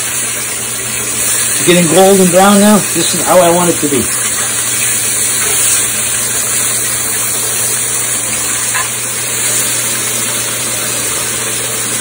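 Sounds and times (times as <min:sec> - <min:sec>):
steaks sizzling in a hot pan: 0:00.0 - 0:12.0.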